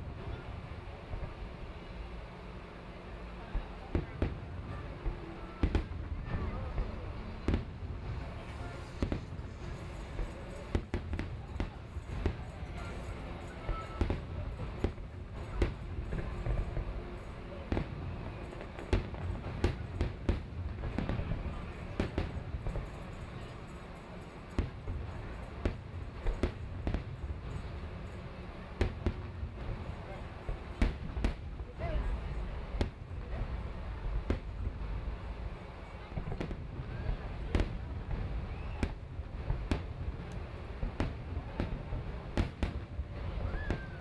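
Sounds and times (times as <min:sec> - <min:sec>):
fireworks booming: 0:03.4 - 0:44.0.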